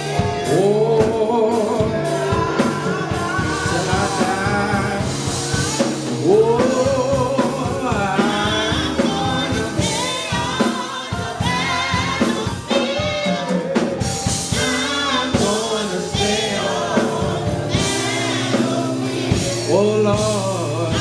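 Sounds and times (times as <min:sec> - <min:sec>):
church band playing: 0:00.0 - 0:21.0
gospel choir singing: 0:00.0 - 0:21.0.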